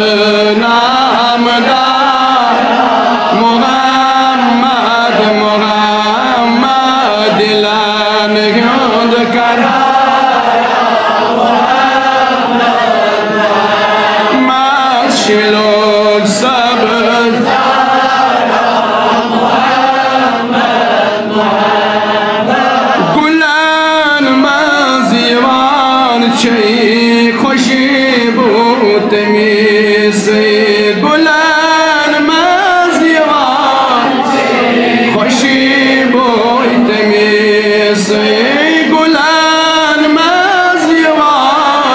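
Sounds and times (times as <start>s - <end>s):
man chanting devotional song: 0.0s - 41.9s.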